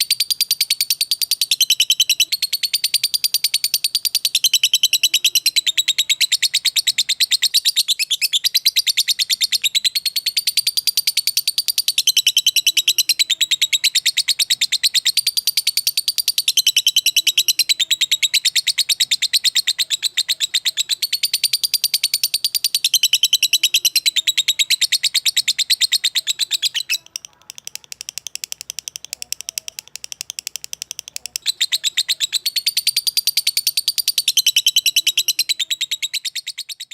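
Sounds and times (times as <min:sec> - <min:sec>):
songbird singing rapid notes: 0:00.0 - 0:36.9.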